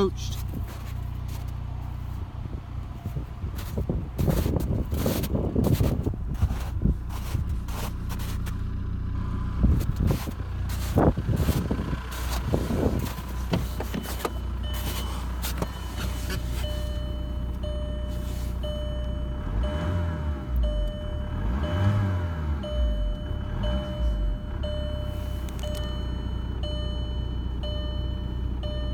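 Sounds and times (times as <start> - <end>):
car warning chime beeping: 0.0 - 9.0, 10.9 - 28.9
diesel engine running: 0.0 - 28.9.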